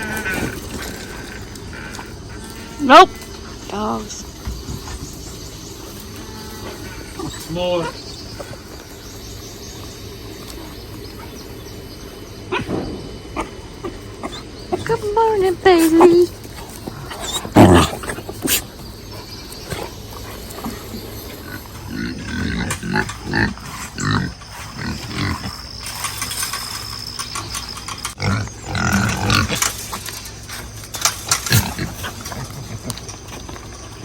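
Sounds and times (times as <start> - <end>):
pigs grunting: 0.0 - 26.5, 27.9 - 34.0.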